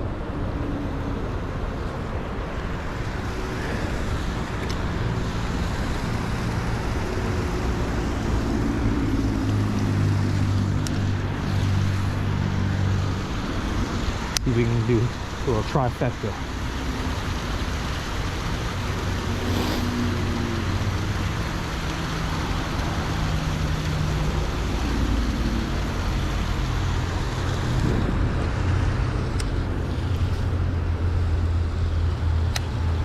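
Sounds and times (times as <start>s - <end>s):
highway traffic rushing: 0.0s - 14.3s, 16.3s - 33.0s.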